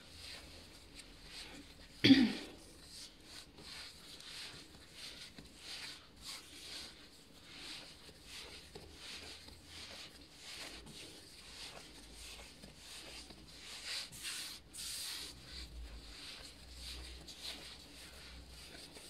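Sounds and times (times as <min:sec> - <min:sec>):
hands kneading dough on stone: 0:00.0 - 0:19.0.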